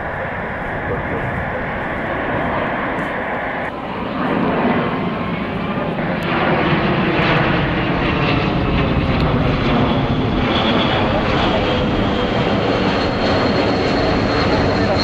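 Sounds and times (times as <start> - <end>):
jet aircraft flying overhead: 0.0 - 15.0.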